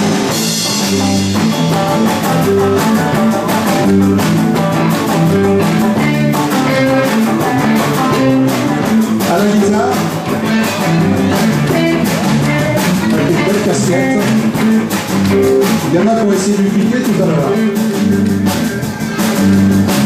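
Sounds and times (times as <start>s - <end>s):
electric guitars: 0.0s - 20.0s
steady drum beat: 0.0s - 20.0s.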